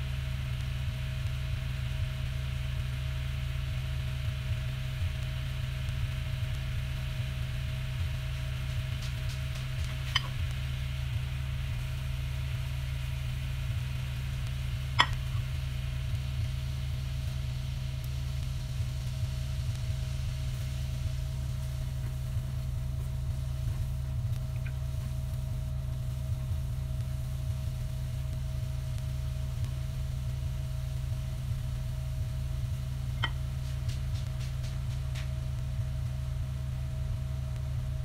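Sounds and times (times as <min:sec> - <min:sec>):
low mechanical hum: 0:00.0 - 0:38.0
thin steady whine: 0:00.0 - 0:38.0.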